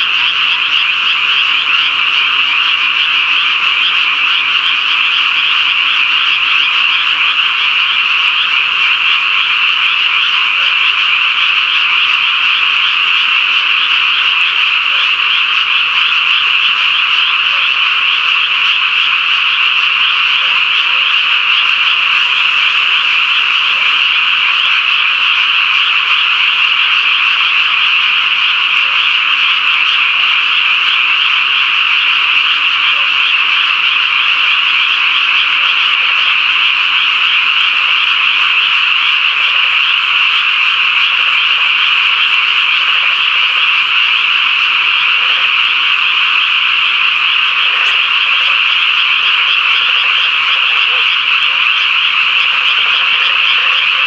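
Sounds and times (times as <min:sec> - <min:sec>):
chorus of frogs trilling: 0:00.0 - 0:54.0.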